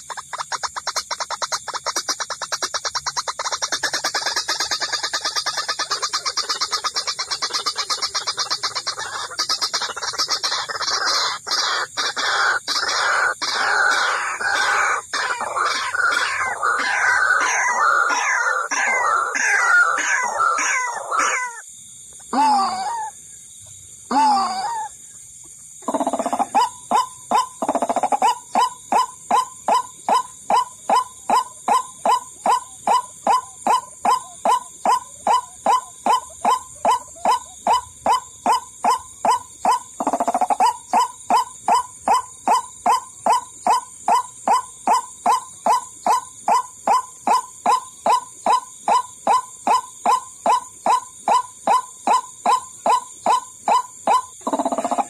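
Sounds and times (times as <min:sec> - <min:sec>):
waterhen calls: 0:00.0 - 0:21.6, 0:25.8 - 0:55.0.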